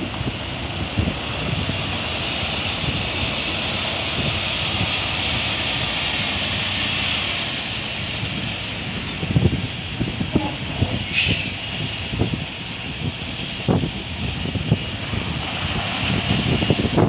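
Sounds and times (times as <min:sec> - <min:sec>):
truck diesel engine passing: 0:00.0 - 0:17.0.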